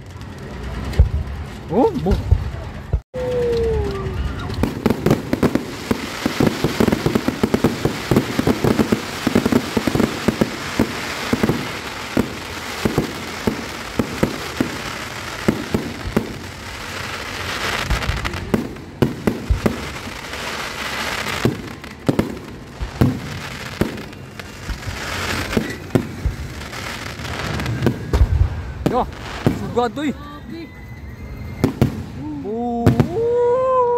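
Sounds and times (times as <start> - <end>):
fireworks bangs: 0.0 - 30.2, 31.2 - 33.7
fireworks crackling hiss: 0.0 - 33.5.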